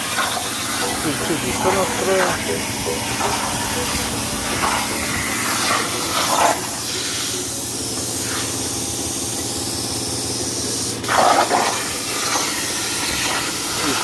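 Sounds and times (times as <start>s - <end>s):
plasma torch cutting steel: 0.0s - 14.0s.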